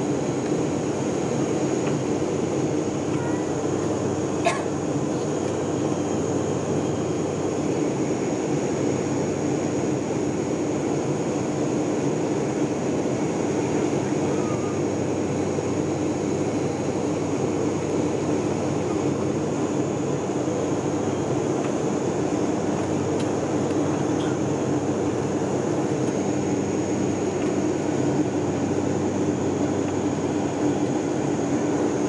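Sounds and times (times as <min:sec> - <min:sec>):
airliner engine drone: 0:00.0 - 0:32.0
faint high whine: 0:00.0 - 0:32.0.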